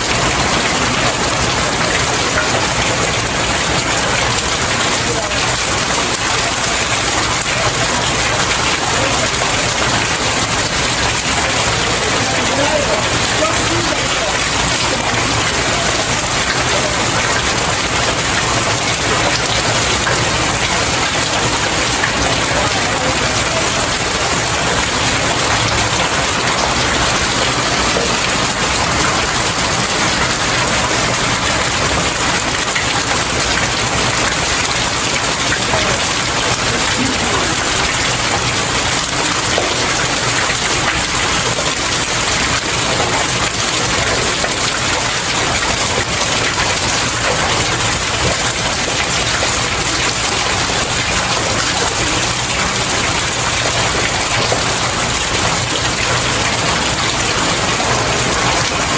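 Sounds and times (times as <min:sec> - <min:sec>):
rain falling on stairs: 0:00.0 - 0:58.9.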